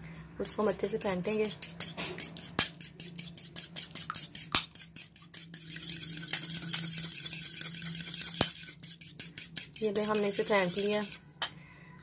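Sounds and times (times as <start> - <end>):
fork clicking against bowl: 0.4 - 11.2
fork scraping bowl: 0.4 - 11.3.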